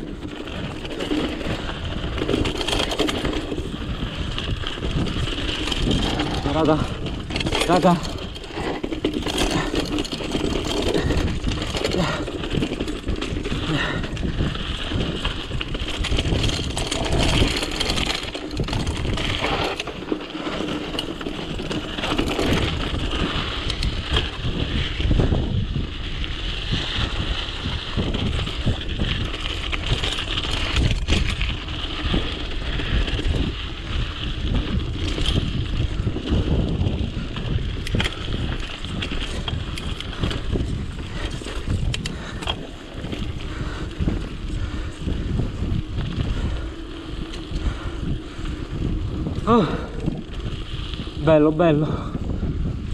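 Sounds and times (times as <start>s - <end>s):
bike rattling and knocking: 0.0s - 52.9s
bike tyres on dirt: 0.0s - 52.9s
wind noise on microphone: 0.0s - 52.9s.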